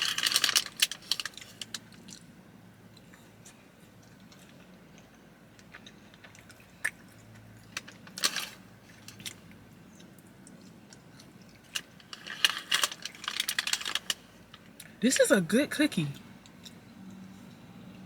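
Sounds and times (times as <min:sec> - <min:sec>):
person chewing a cookie: 0:00.0 - 0:15.0, 0:16.2 - 0:18.0.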